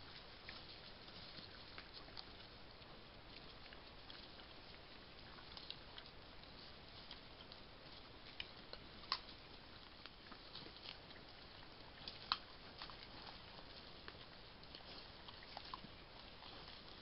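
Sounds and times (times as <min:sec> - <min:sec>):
boars foraging in dry leaves: 0:00.0 - 0:17.0
microphone hiss: 0:00.0 - 0:17.0.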